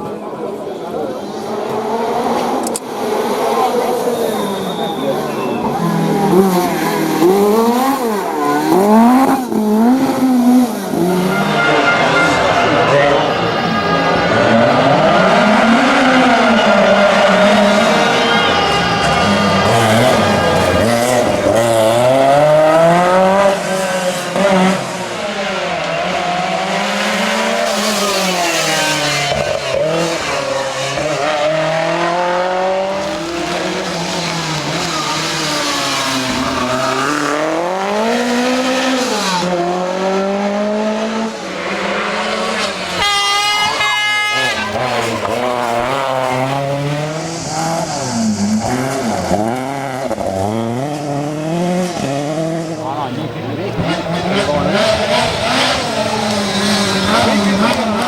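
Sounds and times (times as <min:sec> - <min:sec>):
car engine revving hard: 0:01.1 - 0:58.0.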